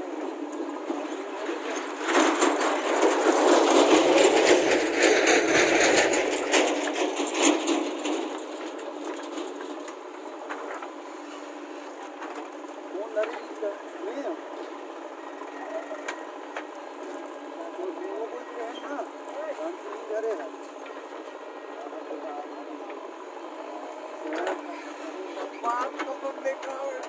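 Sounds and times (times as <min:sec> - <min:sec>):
backhoe engine running: 0:00.0 - 0:27.0.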